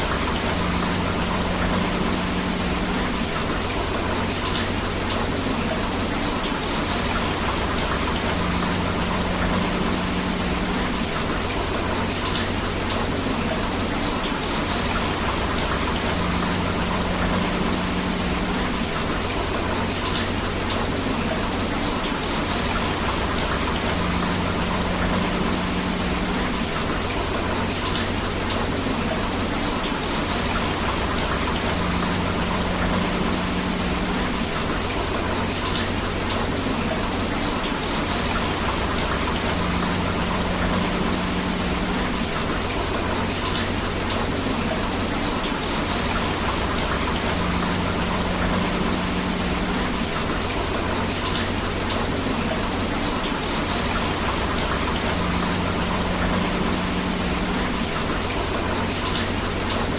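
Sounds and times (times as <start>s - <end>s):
rushing river water: 0.0s - 59.9s
steady rain: 0.0s - 59.9s.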